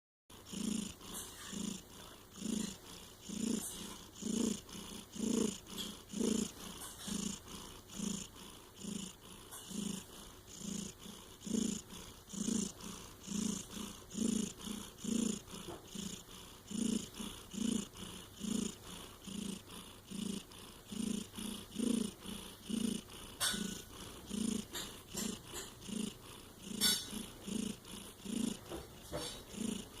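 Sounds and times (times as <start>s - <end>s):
small pet snoring: 0.3s - 30.0s.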